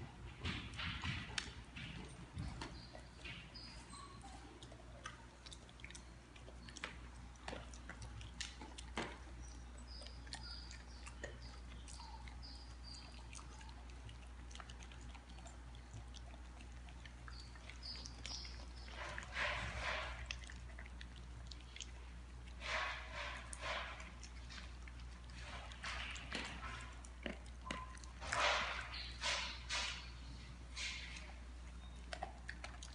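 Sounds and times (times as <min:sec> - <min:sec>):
kibble clicking on metal bowls: 0:00.2 - 0:30.2
dogs crunching kibble: 0:00.2 - 0:32.9.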